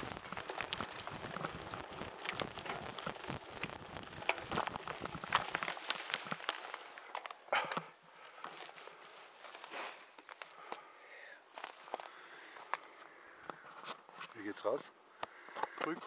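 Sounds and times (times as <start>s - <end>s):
bike tyres crackling on leaves: 0.0s - 13.7s.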